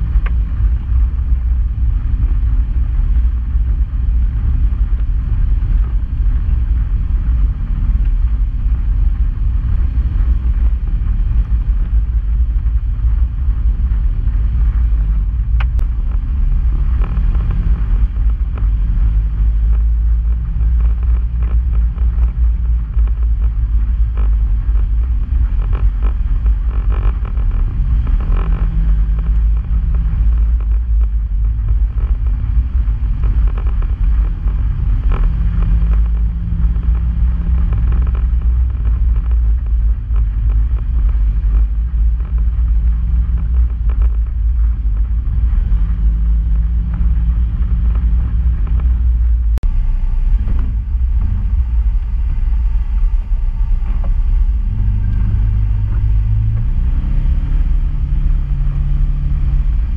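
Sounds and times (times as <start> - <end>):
off-road vehicle engine rumbling: 0.0 - 59.9.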